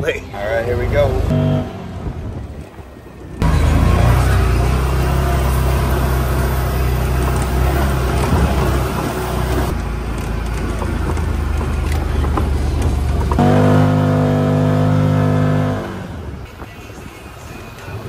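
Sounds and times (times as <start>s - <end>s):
utility vehicle engine running: 0.6s - 16.5s.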